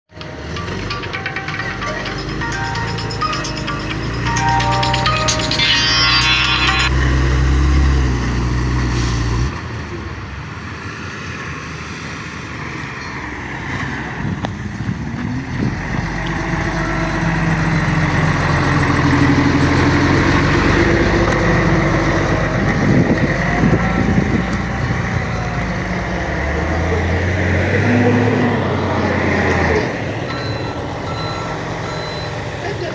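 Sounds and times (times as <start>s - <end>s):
model truck engines: 0.1s - 32.9s.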